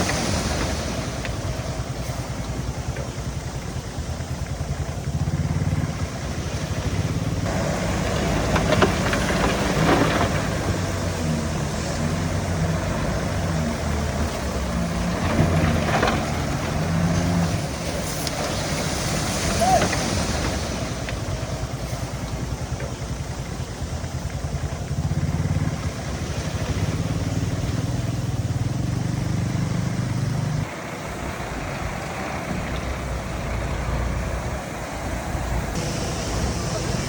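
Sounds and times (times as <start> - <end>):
heavy machinery diesel engine: 0.0 - 37.0.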